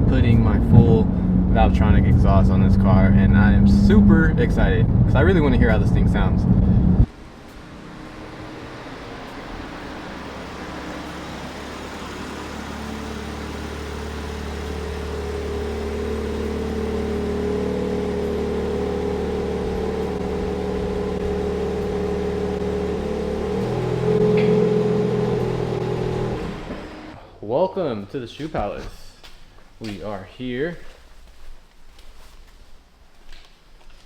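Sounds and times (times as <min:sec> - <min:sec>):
car engine and road drone: 0:00.0 - 0:27.4.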